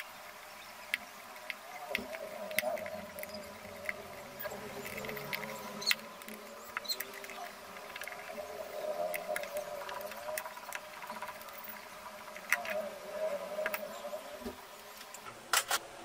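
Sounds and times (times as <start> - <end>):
faint steady background: 0.0 - 16.0.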